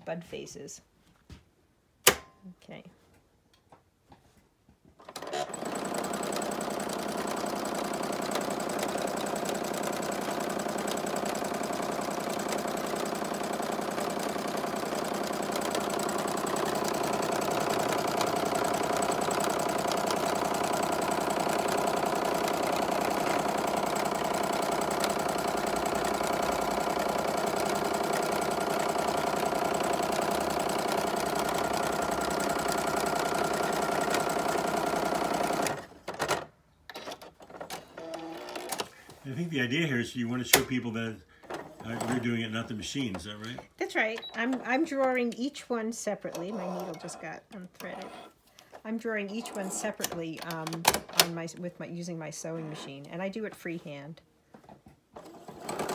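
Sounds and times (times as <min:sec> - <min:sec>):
sewing machine stitching: 0:05.0 - 0:39.6, 0:41.4 - 0:51.5, 0:55.1 - 0:55.9.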